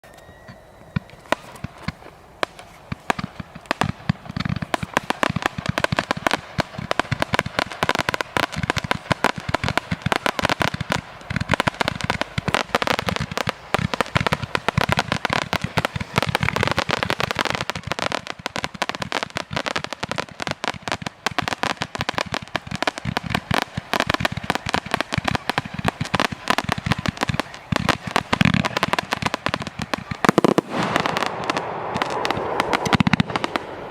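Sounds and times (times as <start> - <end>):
fireworks crackling: 0.0 - 33.9
fireworks bangs and pops: 0.1 - 33.9.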